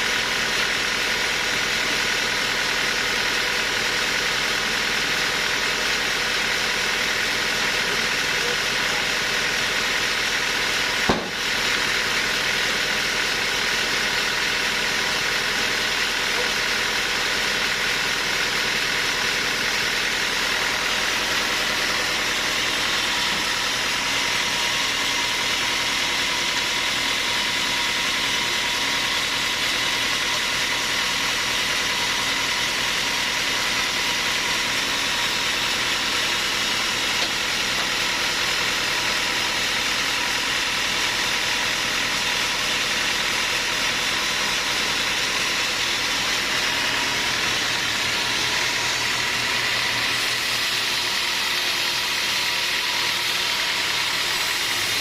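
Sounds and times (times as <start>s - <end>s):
machine engine running steadily: 0.0s - 55.0s.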